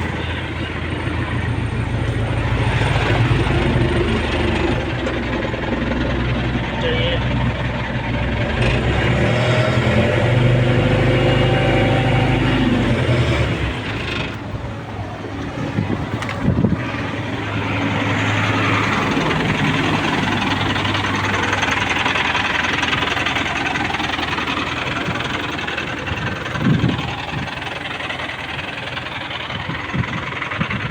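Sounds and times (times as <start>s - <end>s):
vehicle engine idling: 0.0s - 30.9s.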